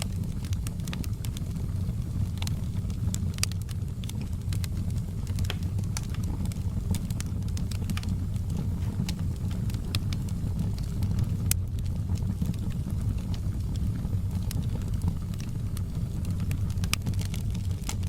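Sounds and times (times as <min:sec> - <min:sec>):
fire pops and snaps: 0:00.0 - 0:18.0
low rumble of burning fire: 0:00.0 - 0:18.0.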